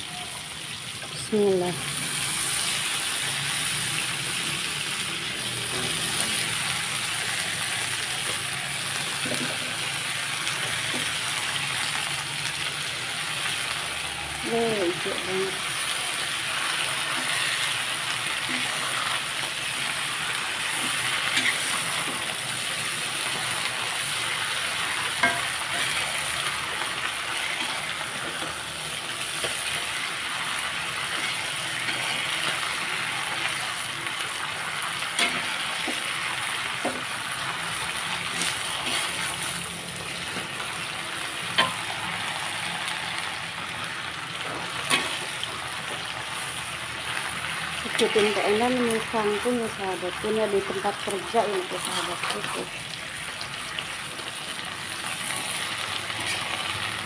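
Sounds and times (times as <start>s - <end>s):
vegetables sizzling in a wok: 0.0s - 57.0s.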